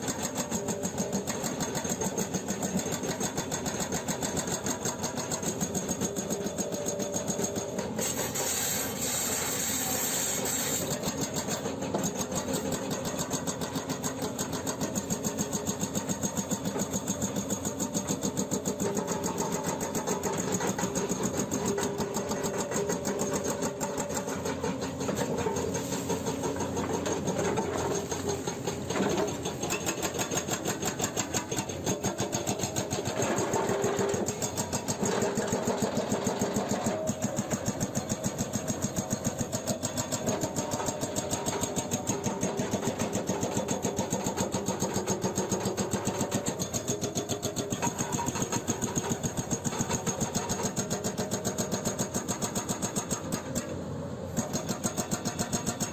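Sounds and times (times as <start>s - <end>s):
excavator engine under load: 0.0s - 55.9s
hydraulic breaker hammering rock: 0.0s - 55.9s.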